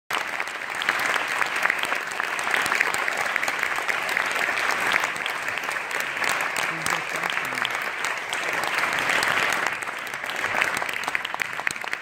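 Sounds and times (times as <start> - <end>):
audience applauding: 0.1 - 12.0.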